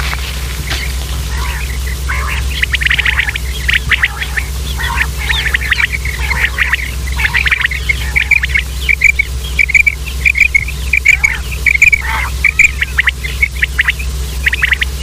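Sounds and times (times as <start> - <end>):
steady low hum: 0.0 - 15.0
quail calling: 0.6 - 15.0.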